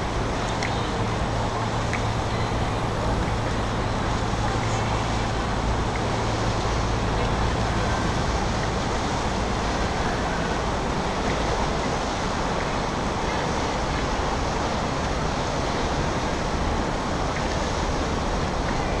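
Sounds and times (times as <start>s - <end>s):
boat engine running: 0.0s - 19.0s
water rushing past hull: 0.0s - 19.0s.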